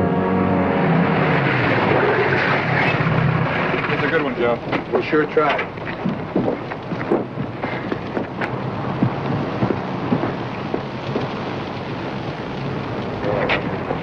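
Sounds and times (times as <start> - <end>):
engines rumbling: 0.0 - 14.0
wind noise: 0.0 - 14.0
light crackles: 1.3 - 14.0.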